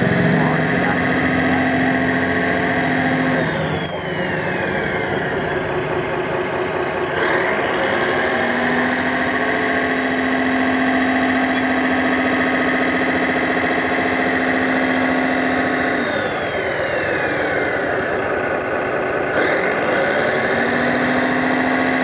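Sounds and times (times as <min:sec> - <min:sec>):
falling whine: 0:00.0 - 0:22.0
model tractor motor running: 0:00.0 - 0:22.0.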